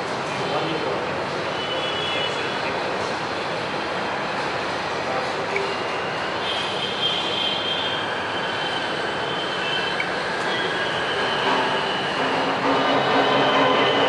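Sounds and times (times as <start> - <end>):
steady loud background noise: 0.0 - 14.0.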